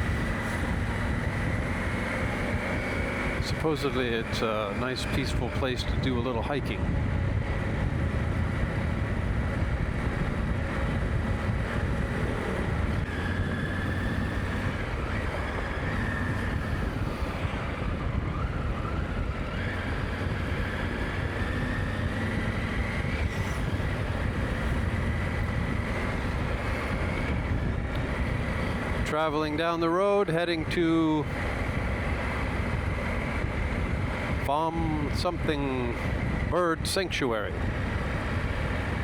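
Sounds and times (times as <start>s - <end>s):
wind buffeting microphone: 0.0s - 29.8s, 30.6s - 39.0s
motorcycle engine and road noise: 0.0s - 39.0s.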